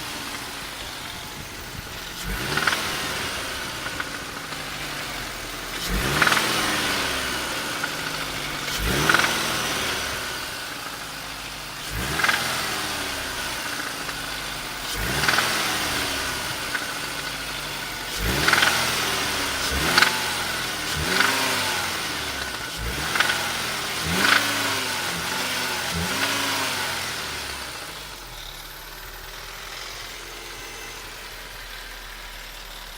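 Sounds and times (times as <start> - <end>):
car engine revving: 0.0 - 32.9
engine knocking: 0.0 - 32.9.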